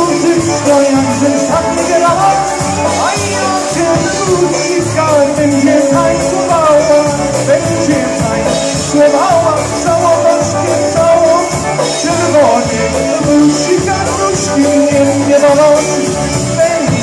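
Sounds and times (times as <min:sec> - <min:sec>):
live band through loudspeakers: 0:00.0 - 0:17.0.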